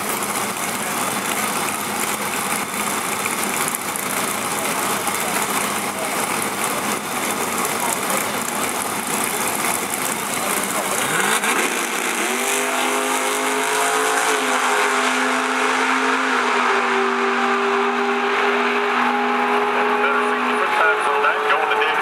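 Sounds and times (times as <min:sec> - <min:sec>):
drag cars launching at full throttle: 0:00.0 - 0:22.0
loud engine tone: 0:00.0 - 0:22.0.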